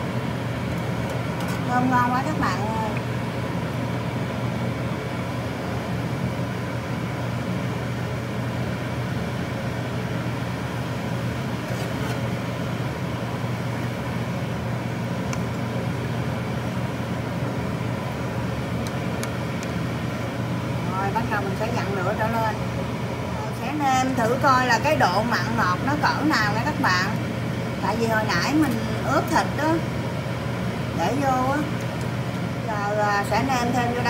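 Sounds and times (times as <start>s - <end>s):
gas burner roar: 0.0s - 34.0s.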